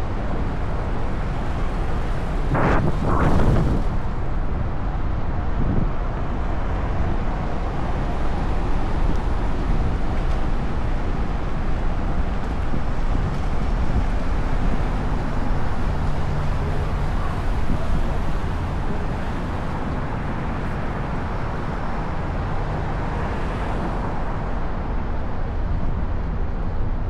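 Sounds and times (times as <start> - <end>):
motor traffic rumble: 0.0 - 27.0
wind rushing on microphone: 0.0 - 27.0.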